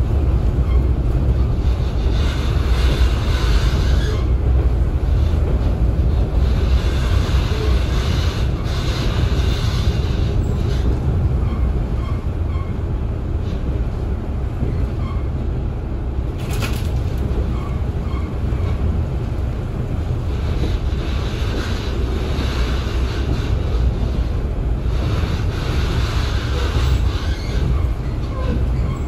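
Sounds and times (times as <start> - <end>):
train rumbling under way: 0.0 - 29.0.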